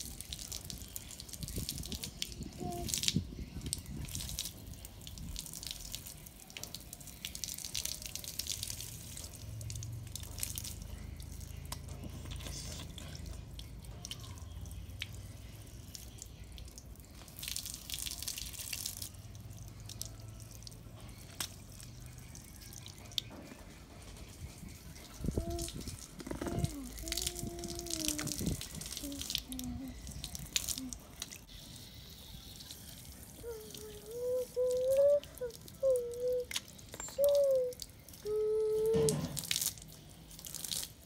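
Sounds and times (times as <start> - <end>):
rain dripping on concrete: 0.0 - 23.4, 24.4 - 41.0.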